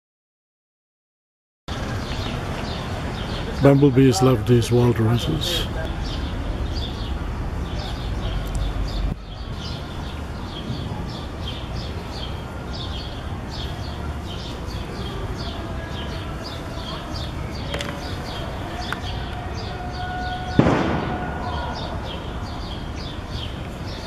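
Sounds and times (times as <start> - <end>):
small birds chirping: 1.7 - 24.0.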